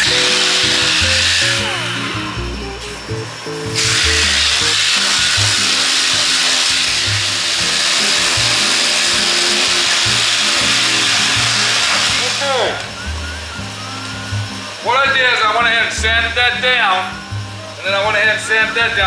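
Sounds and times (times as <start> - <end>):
power sander grinding: 0.0 - 18.4
background music with bass line: 0.0 - 19.0.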